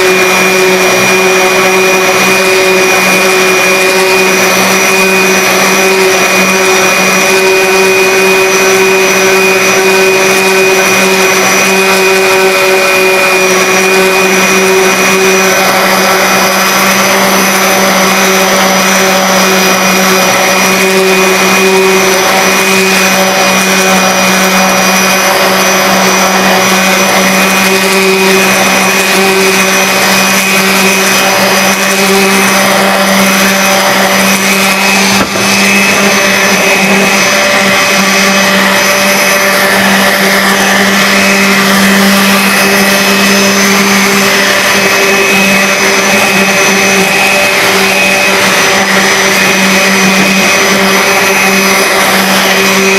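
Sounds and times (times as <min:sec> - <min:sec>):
orbital sander sanding wood: 0:00.0 - 0:52.9.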